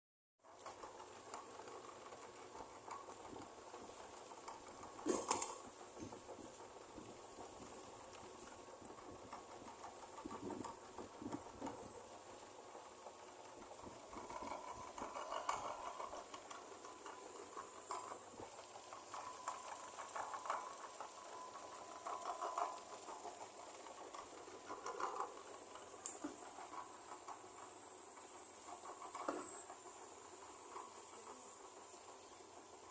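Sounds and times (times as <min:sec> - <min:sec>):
dough squishing in mixer: 0:00.5 - 0:32.9.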